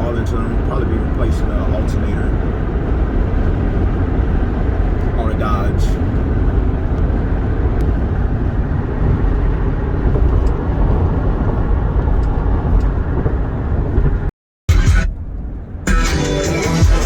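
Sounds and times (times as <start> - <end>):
road and engine rumble inside vehicle: 0.0 - 17.0.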